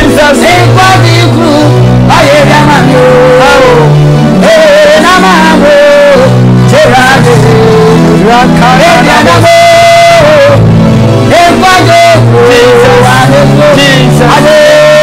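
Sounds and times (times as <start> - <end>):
electronic keyboard chords: 0.0 - 15.0
man singing: 0.0 - 15.0.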